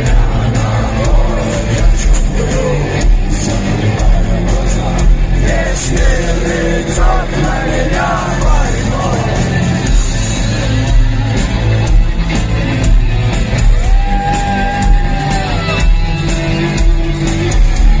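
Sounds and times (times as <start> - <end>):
rock band playing: 0.0 - 18.0.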